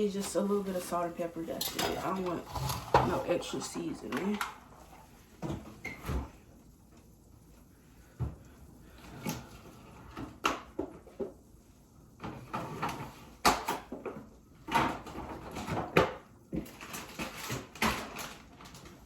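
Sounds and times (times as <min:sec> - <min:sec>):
kitchen items knocking and clattering: 0:00.1 - 0:06.4, 0:09.3 - 0:11.5, 0:12.2 - 0:19.0.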